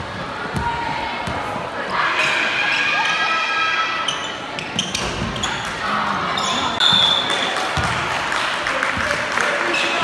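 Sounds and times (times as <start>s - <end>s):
spectators' voices: 0.0s - 10.0s.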